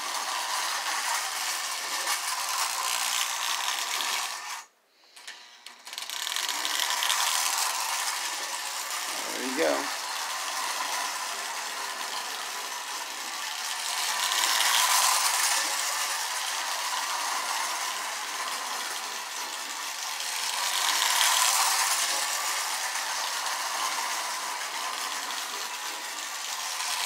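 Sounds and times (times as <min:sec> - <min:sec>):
toy train motor whirring: 0:00.0 - 0:27.0
toy train wheels clattering: 0:00.0 - 0:27.0.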